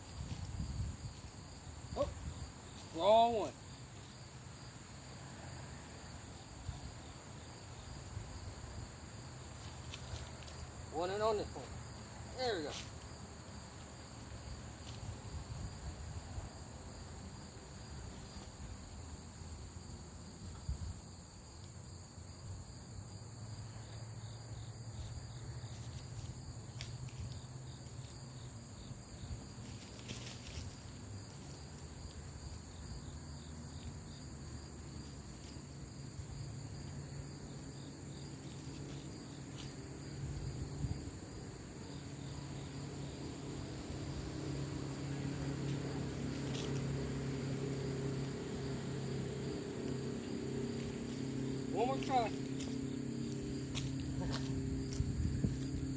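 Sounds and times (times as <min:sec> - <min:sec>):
insects buzzing: 0:00.0 - 0:55.9.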